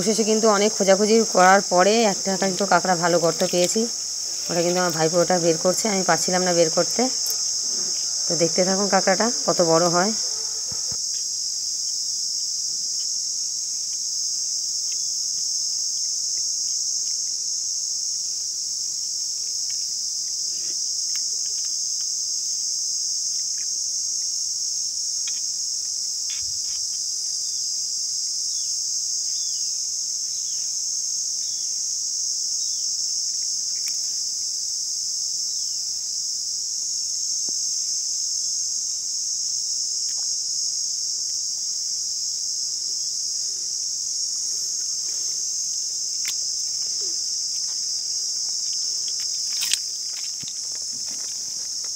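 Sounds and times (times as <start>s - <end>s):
high-pitched insect chorus: 0.0s - 51.9s.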